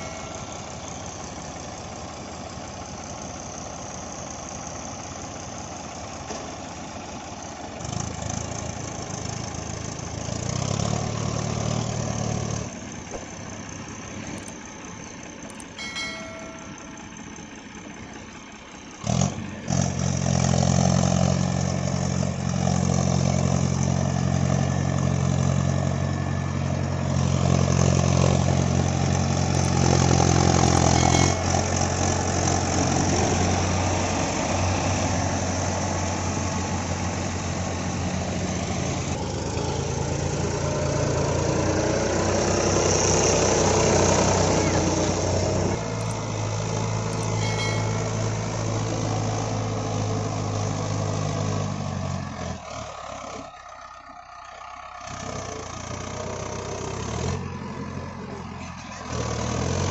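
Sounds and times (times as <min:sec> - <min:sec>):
engine running under load: 0:00.0 - 0:59.9
tractor diesel engines running: 0:00.0 - 0:59.9.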